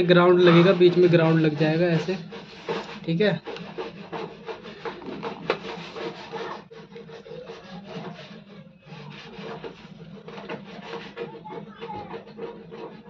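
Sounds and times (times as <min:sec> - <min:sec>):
wires rubbing and rustling: 0:00.0 - 0:13.0.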